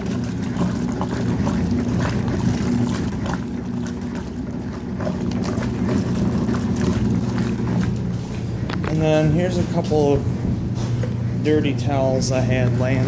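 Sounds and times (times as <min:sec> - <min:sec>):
agitator churning water: 0:00.0 - 0:13.0
washing machine motor hum: 0:00.0 - 0:13.0.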